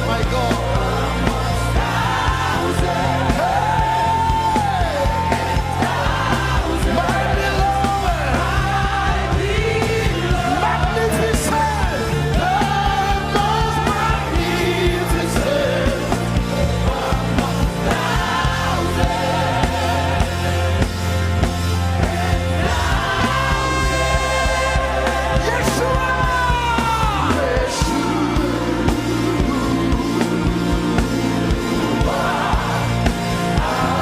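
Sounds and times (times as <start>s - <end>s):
band playing: 0.0s - 34.0s
steady bass notes: 0.0s - 34.0s
voices singing gospel: 0.0s - 34.0s.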